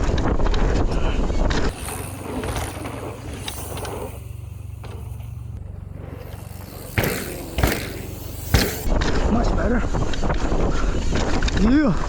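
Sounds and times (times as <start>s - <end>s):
bike tyres rumbling on dirt: 0.0s - 12.0s.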